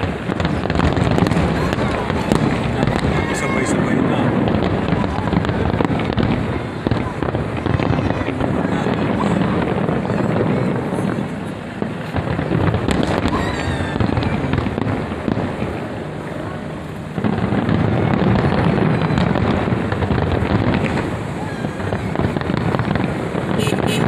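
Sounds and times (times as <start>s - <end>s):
fireworks booms and crackles: 0.0s - 24.0s.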